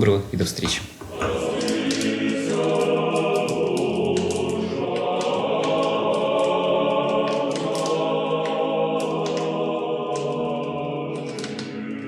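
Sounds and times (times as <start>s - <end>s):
choir singing sustained chords: 1.0s - 12.0s.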